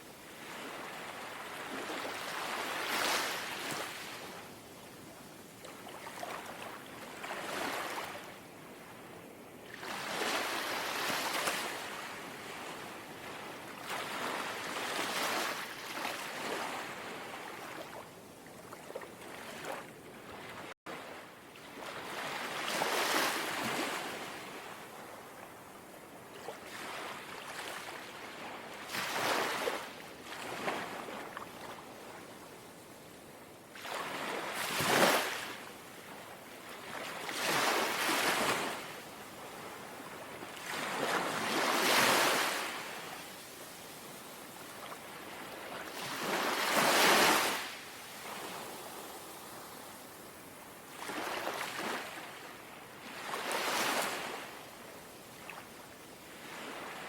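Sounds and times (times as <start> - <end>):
sea waves lapping on shore: 0.2 - 4.5, 9.7 - 32.6, 33.7 - 57.0.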